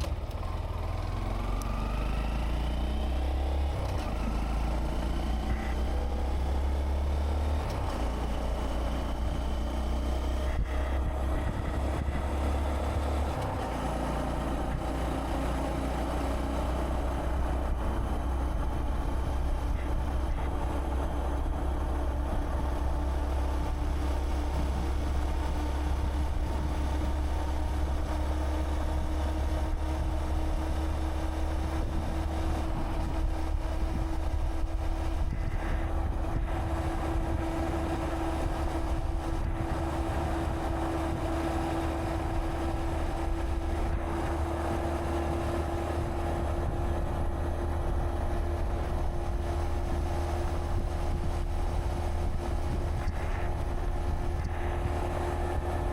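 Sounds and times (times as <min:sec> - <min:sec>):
motorcycle engine cruising: 0:00.0 - 0:55.9
wind rumbling on microphone: 0:00.0 - 0:55.9.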